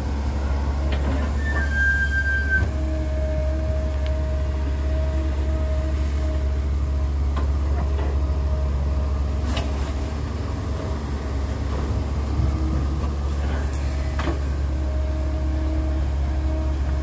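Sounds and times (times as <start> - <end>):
excavator diesel engine drone: 0.0 - 17.0.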